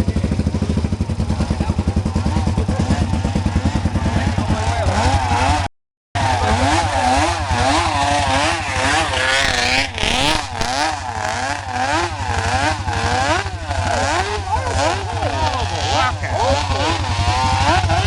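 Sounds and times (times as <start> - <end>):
racing motorcycle engine revving: 0.0 - 18.0.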